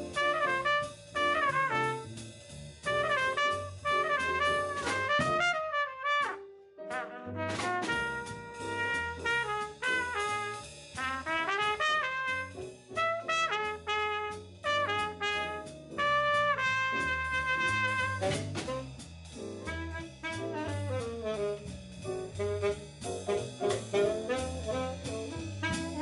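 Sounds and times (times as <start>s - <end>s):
trumpet soloing: 0.0s - 2.2s, 2.9s - 19.0s, 19.7s - 26.0s
jazz bass piano and drums: 0.0s - 26.0s.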